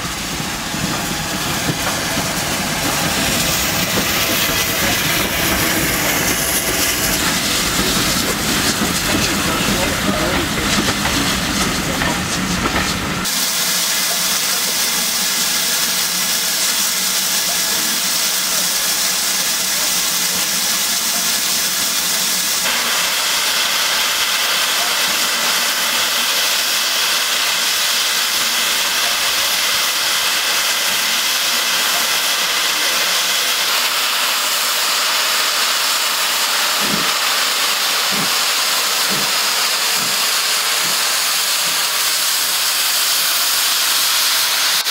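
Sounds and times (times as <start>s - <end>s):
steam locomotive hissing: 0.0s - 44.9s
steam train running past: 0.0s - 44.9s.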